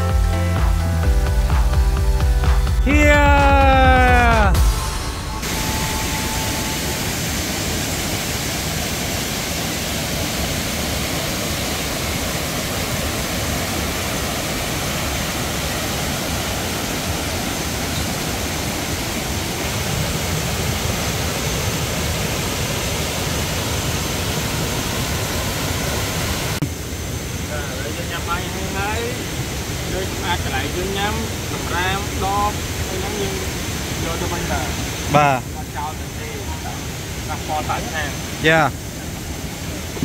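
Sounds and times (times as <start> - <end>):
small waterfall rushing: 5.4 - 26.6, 27.5 - 40.0.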